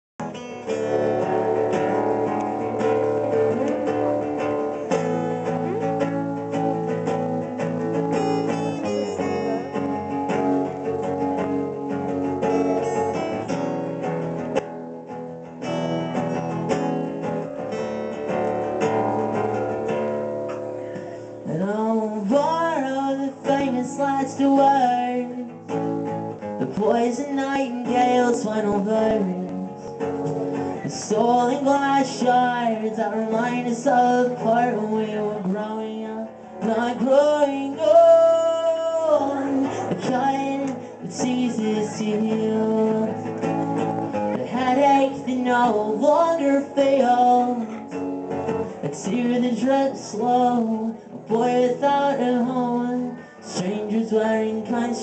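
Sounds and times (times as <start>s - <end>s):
person singing: 0.2s - 14.7s, 20.6s - 55.0s
strummed acoustic guitar: 0.2s - 55.0s.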